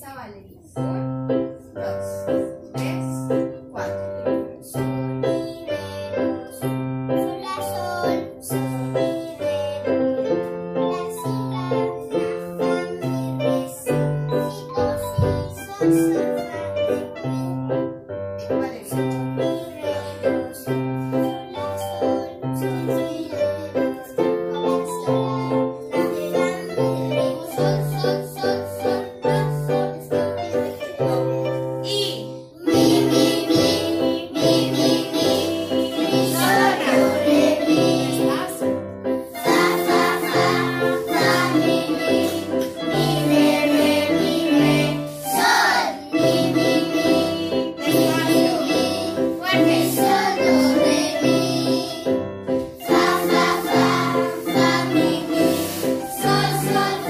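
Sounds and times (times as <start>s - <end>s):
electronic keyboards playing a melody: 6.2s - 57.0s.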